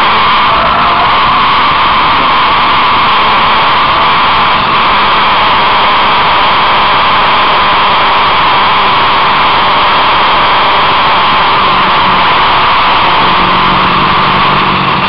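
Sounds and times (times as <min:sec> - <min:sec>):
faint engine drone: 0:00.0 - 0:15.0.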